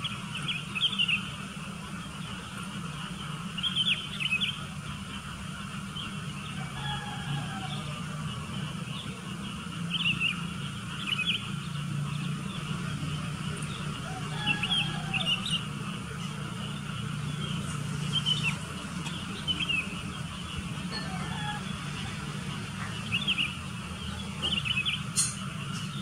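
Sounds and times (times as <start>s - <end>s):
birds chirping: 0.0s - 26.0s
steady low hum: 0.0s - 26.0s.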